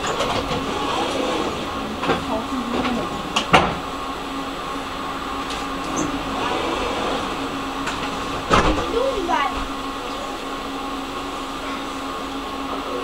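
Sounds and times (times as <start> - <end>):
tram equipment hum: 0.0 - 13.0.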